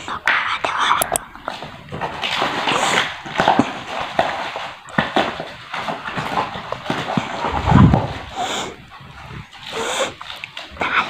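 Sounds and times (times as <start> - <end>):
plastic and cardboard rustling: 0.0 - 11.0.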